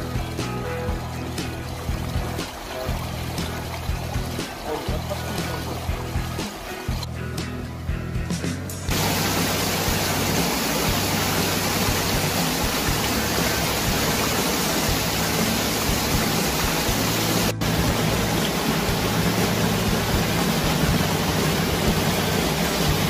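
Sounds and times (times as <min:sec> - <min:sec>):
water pouring into drain: 0:00.0 - 0:07.1, 0:08.9 - 0:23.0.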